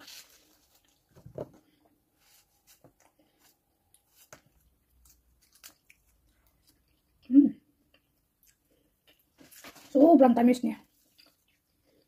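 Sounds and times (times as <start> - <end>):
fruit squishing: 0.0 - 10.0.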